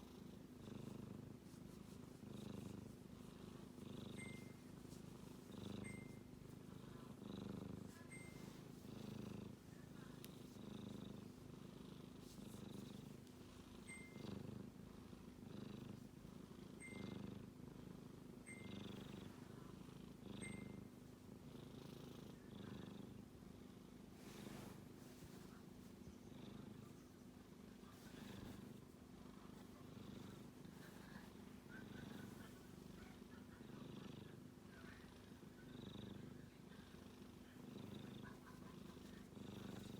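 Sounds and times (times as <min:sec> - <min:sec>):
kitten snoring: 0:00.0 - 0:01.4, 0:02.0 - 0:25.0, 0:27.6 - 0:39.9.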